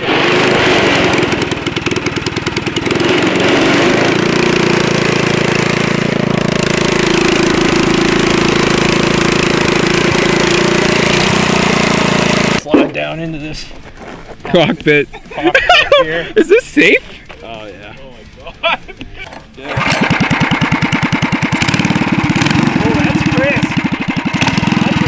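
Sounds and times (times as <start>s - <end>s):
small kart engine running: 0.0s - 12.6s, 17.4s - 25.0s.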